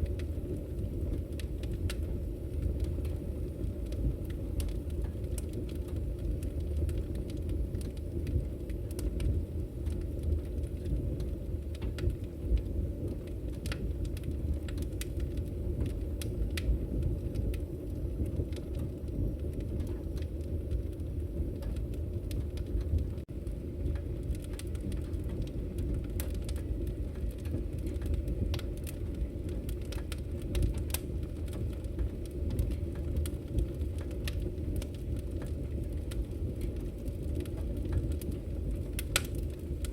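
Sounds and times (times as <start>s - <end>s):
fire rumbling in a stove: 0.0s - 39.9s
wood crackling and popping: 0.0s - 39.9s.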